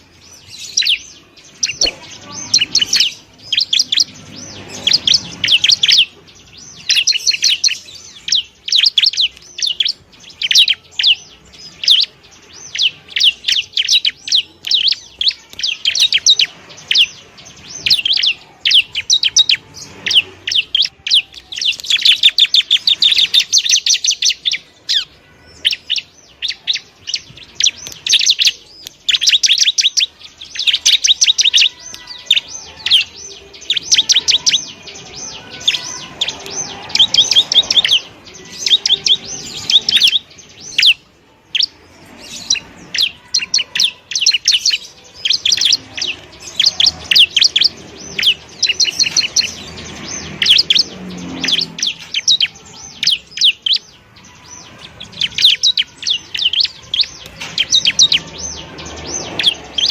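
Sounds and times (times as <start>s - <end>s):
bird singing chattering trills: 0.0s - 59.9s.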